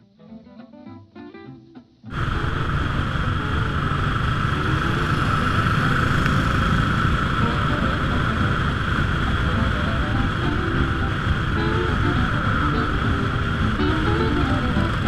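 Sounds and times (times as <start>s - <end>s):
acoustic guitar: 0.0s - 15.0s
motorcycle engine running: 2.1s - 15.0s
wind rushing over microphone: 2.1s - 15.0s.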